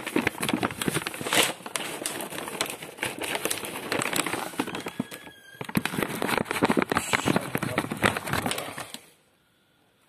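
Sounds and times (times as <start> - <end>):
kibble rattling in plastic bowl: 0.0 - 9.0.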